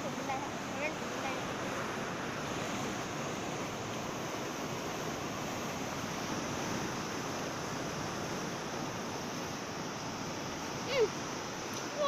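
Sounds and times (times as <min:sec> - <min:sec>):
sea waves washing: 0:00.0 - 0:12.0
wind: 0:00.0 - 0:12.0.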